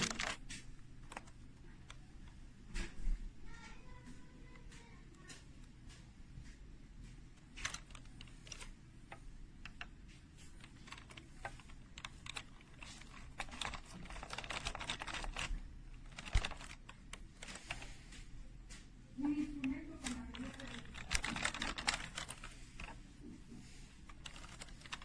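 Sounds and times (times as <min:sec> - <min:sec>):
computer keyboard keys clicking: 0:00.0 - 0:02.4, 0:03.5 - 0:23.0, 0:24.1 - 0:25.0.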